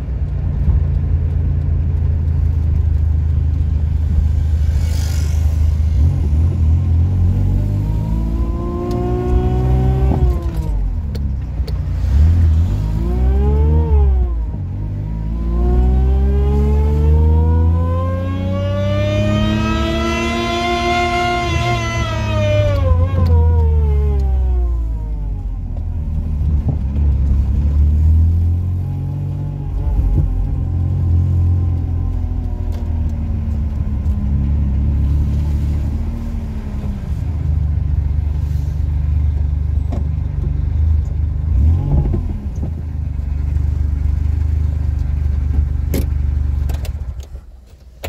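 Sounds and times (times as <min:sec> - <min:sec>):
car engine droning: 0:00.0 - 0:48.0.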